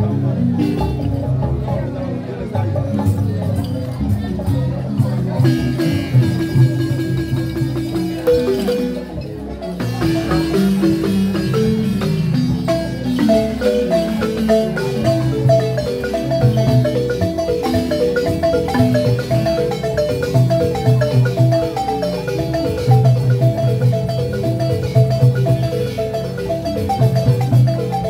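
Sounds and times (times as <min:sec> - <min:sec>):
deep bass xylophone notes: 0:00.0 - 0:28.0
wooden xylophones playing: 0:00.0 - 0:28.0.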